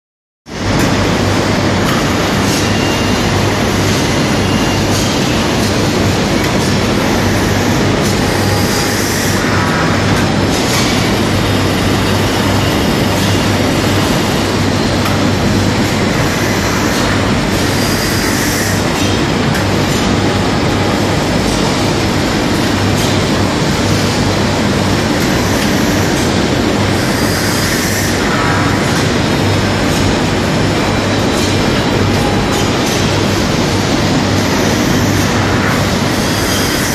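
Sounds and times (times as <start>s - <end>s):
cutting machine running: 0.5s - 36.9s.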